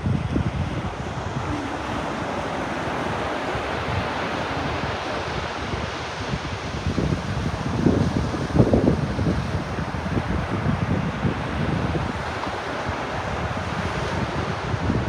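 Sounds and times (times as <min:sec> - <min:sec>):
ocean waves washing onto beach: 0:00.0 - 0:15.0
wind gusting on microphone: 0:00.0 - 0:15.0.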